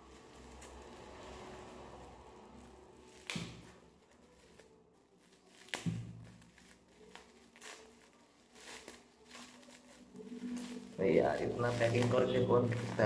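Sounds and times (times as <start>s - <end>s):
plastic packaging tearing: 0.0s - 13.0s.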